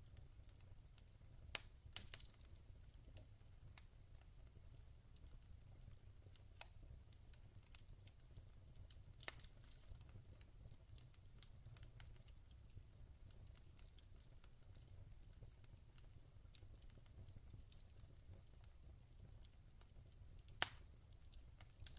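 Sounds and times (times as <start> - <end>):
log fire crackling: 0.0 - 21.9.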